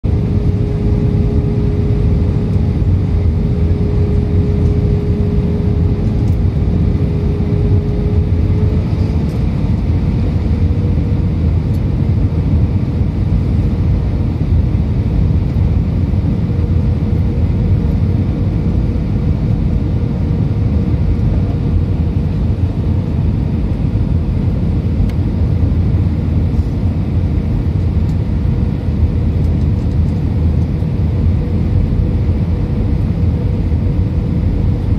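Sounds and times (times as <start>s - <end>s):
low rumble of jet engines: 0.0s - 34.9s
steady cabin hum: 0.0s - 34.9s.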